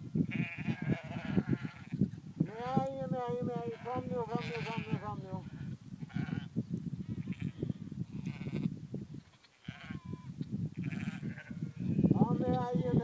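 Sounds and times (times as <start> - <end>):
wind on microphone: 0.0 - 13.0
distant sheep bleating: 0.3 - 2.8, 3.4 - 6.5, 7.1 - 13.0.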